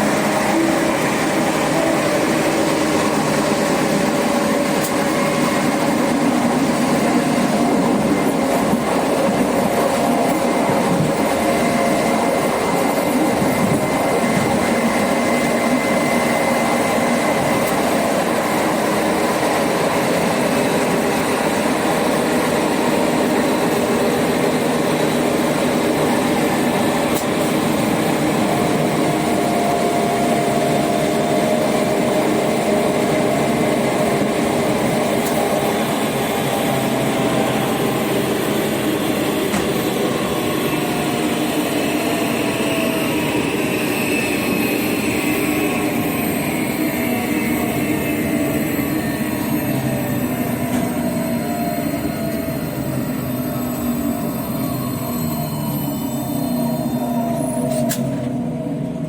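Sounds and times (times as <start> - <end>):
traction motor whine: 0.0 - 59.0
train rumble: 0.0 - 59.0.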